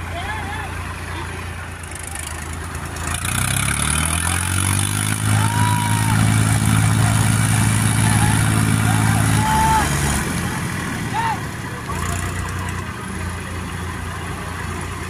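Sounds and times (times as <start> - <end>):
tractor engines revving under load: 0.0 - 15.0.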